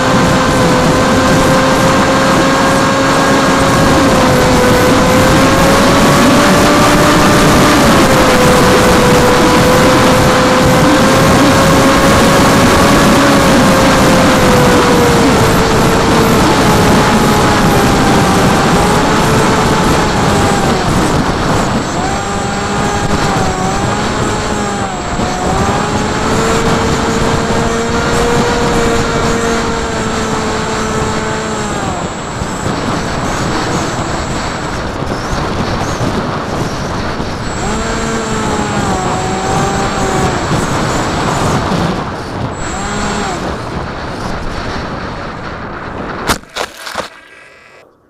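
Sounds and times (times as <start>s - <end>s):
electric motor and propeller whine: 0.0s - 48.0s
heavy wind rush: 0.0s - 48.0s.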